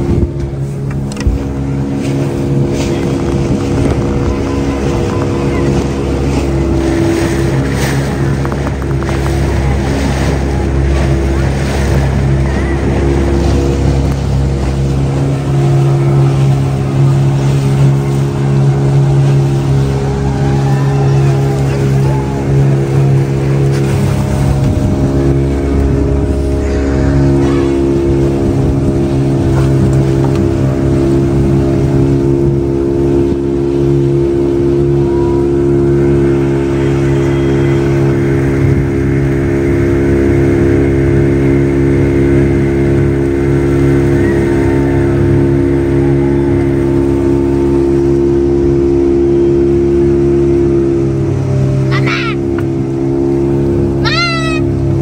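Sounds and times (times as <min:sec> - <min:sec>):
motorboat engine running: 0:00.0 - 0:55.0
water rushing past hull: 0:00.0 - 0:55.0.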